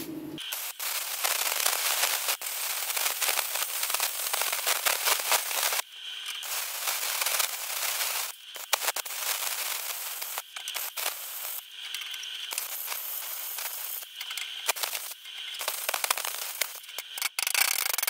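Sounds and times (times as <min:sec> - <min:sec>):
crackling clicks: 0:00.4 - 0:18.0
plasma cutter hissing: 0:00.4 - 0:18.0.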